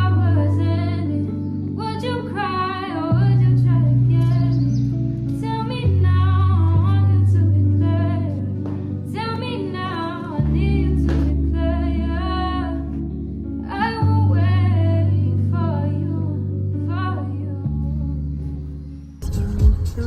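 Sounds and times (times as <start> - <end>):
woman singing: 0.0 - 18.9
sustained bass notes: 0.0 - 20.0.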